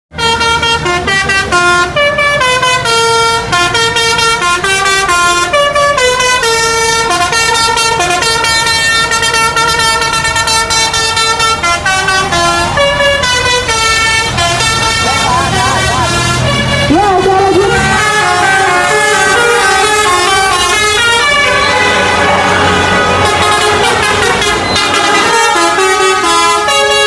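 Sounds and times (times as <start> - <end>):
low engine rumble: 0.1 - 26.6
multi-tone horn melody: 0.1 - 27.0.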